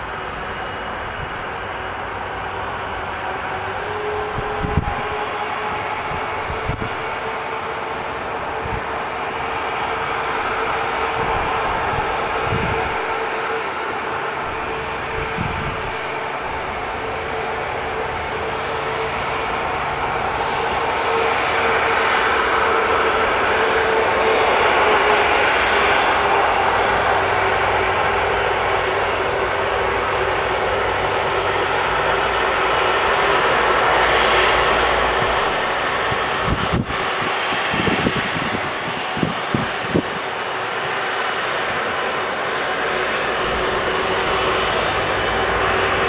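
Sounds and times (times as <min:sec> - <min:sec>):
jet engines whining at taxi: 0:00.0 - 0:46.0.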